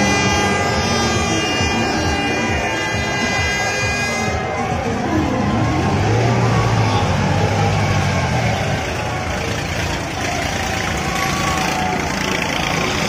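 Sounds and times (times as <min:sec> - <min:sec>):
crowd noise: 0:00.0 - 0:13.0
ride machinery rumble: 0:00.0 - 0:13.0.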